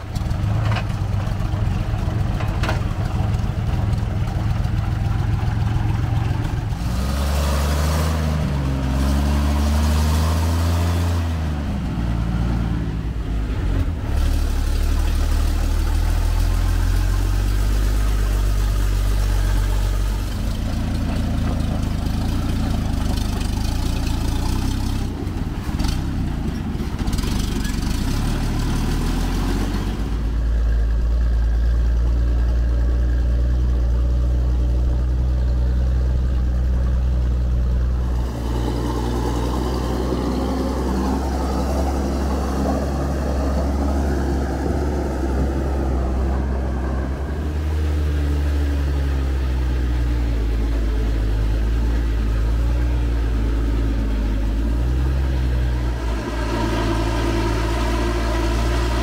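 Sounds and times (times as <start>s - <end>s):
truck engine running under load: 0.0s - 59.0s.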